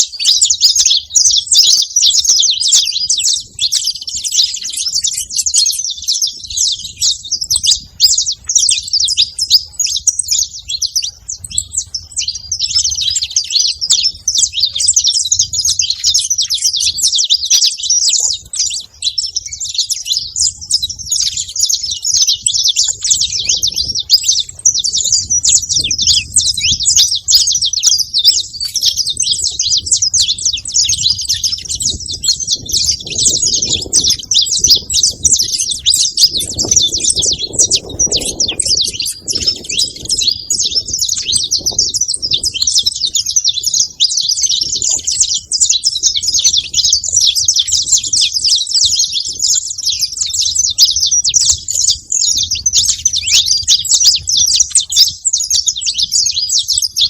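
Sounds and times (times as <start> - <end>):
finches chirping and chattering: 0.0 - 57.0.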